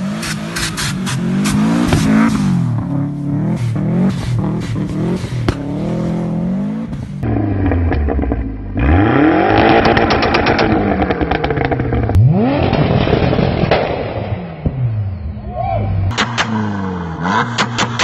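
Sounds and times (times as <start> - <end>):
car engines revving hard: 0.0 - 14.9, 16.1 - 18.0
exhaust pops and crackles: 0.2 - 6.2, 6.9 - 14.8, 17.5 - 18.0.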